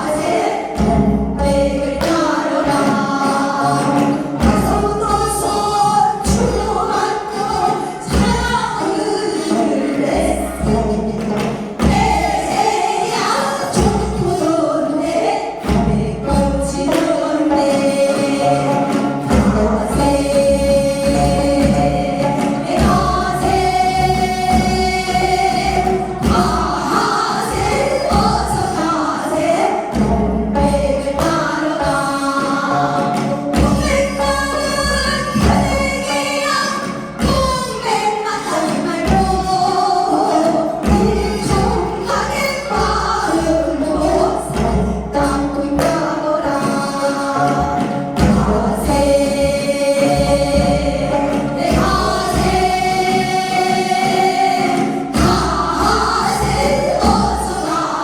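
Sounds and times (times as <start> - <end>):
several voices singing folk song: 0.0 - 58.0.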